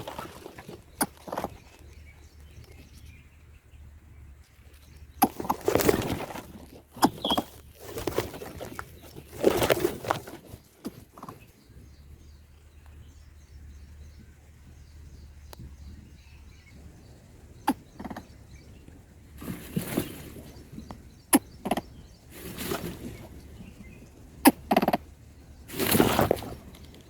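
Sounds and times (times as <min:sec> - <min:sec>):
rustling foliage and flapping: 0:00.0 - 0:27.0.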